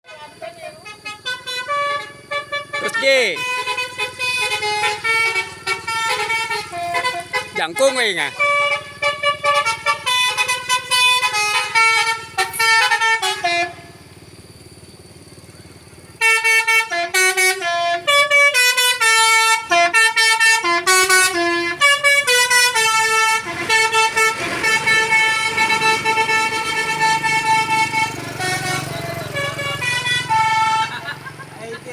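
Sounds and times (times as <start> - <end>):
musical vehicle horn: 0.0 - 14.3, 15.2 - 31.8.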